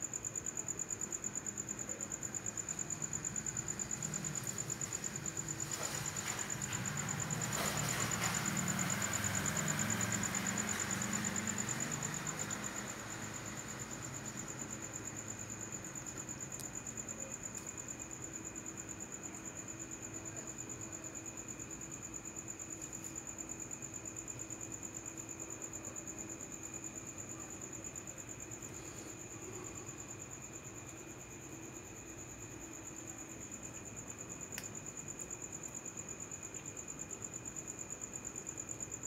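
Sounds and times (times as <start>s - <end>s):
night insects trilling: 0.0s - 39.0s.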